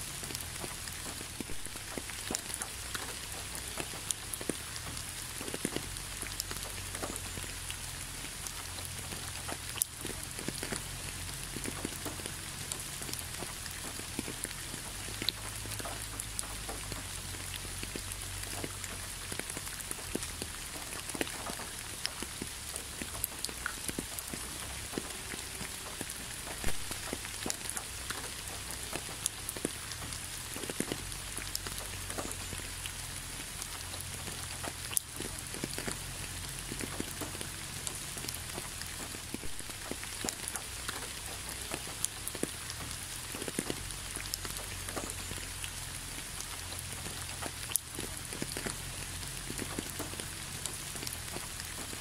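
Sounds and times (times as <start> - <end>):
raindrops ticking on a surface: 0.0 - 52.0.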